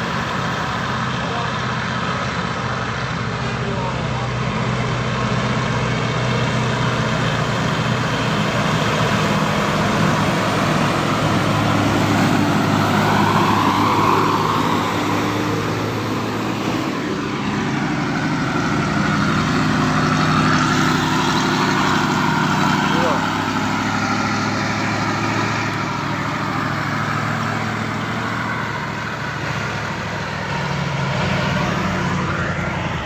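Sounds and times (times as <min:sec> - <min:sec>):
diesel truck engines under load: 0:00.0 - 0:33.0.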